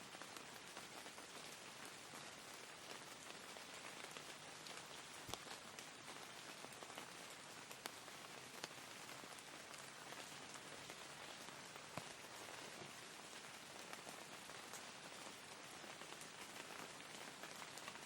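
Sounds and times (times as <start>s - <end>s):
soft rain falling: 0.0s - 18.0s
raindrops ticking: 2.4s - 18.0s.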